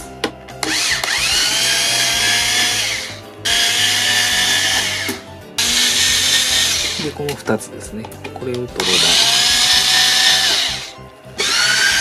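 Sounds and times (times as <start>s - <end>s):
electric screwdriver whirring: 0.6s - 7.0s, 8.8s - 12.0s.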